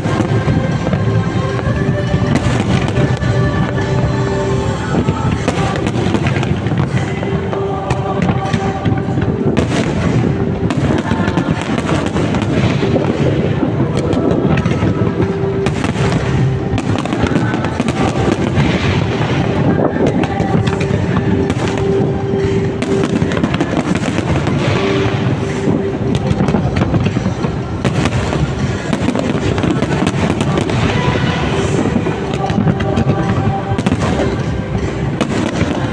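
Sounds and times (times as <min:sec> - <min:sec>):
fireworks crackling and banging: 0:00.0 - 0:35.9
music playing: 0:00.0 - 0:35.9.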